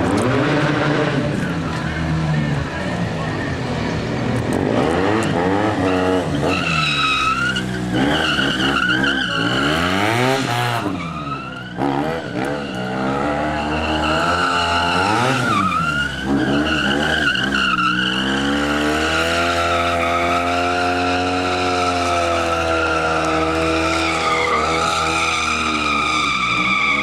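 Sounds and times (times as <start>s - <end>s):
motorcycle engine revving: 0.0s - 27.0s
tyre squealing: 4.7s - 27.0s.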